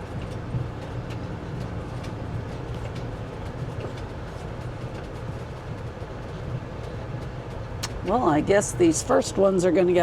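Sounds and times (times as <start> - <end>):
faint clicks and rattles: 0.0 - 9.7
engine and road rumble: 0.0 - 10.0.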